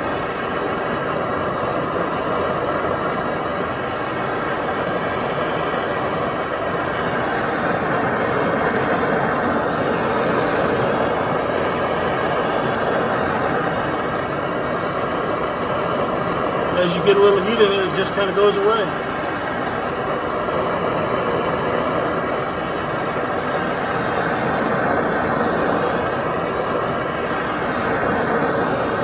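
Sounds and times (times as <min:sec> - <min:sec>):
gas torch flame rushing: 0:00.0 - 0:29.0.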